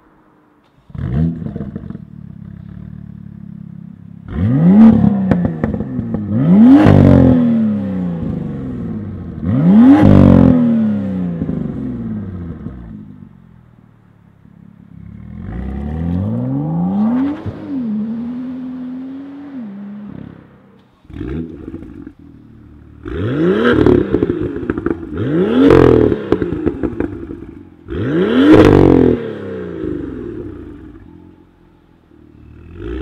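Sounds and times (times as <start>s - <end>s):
car engine revving: 0.8s - 13.3s, 14.4s - 33.0s.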